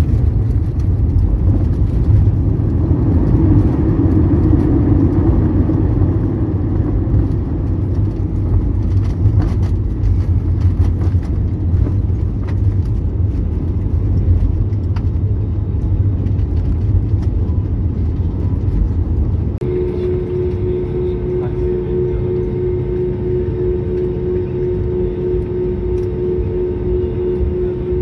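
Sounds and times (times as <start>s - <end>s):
airliner cabin rumble: 0.0s - 28.0s.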